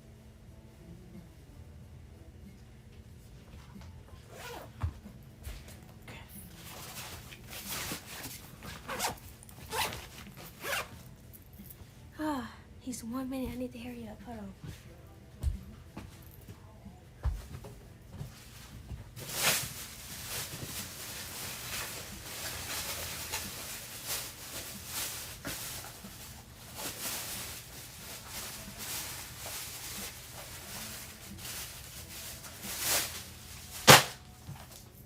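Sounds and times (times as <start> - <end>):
rustling and handling noises: 2.9 - 12.1, 13.4 - 35.0.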